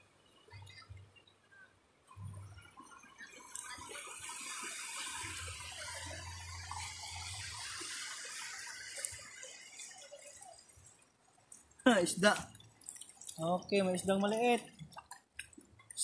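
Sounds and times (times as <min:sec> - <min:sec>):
seawater splashing and trickling: 0:02.1 - 0:16.0.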